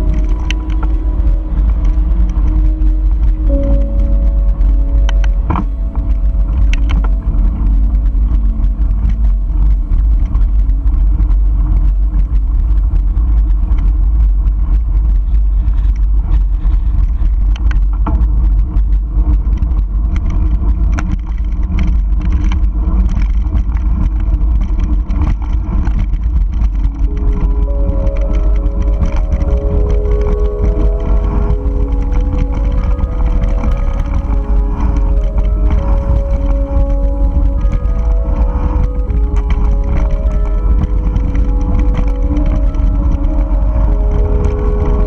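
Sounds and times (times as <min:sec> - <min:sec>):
bike rumbling on dirt road: 0:00.0 - 0:45.0
wind buffeting microphone: 0:00.0 - 0:45.0.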